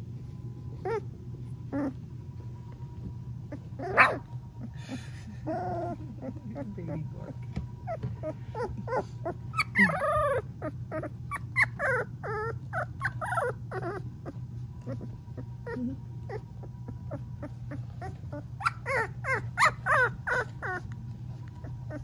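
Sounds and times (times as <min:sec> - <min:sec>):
puppy trilling: 0:00.7 - 0:02.0, 0:03.5 - 0:22.0.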